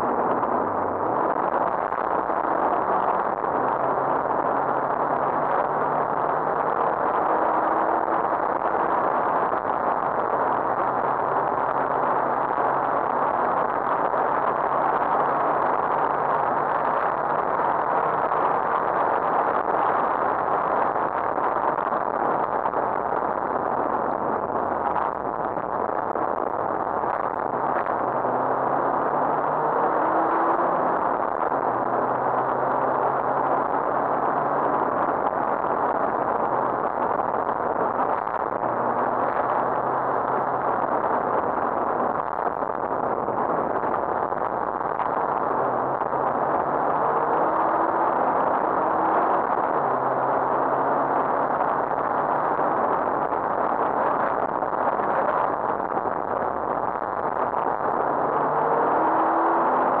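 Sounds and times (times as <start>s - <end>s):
rally car engine revving: 0.0s - 60.0s
road and wind noise: 0.0s - 60.0s.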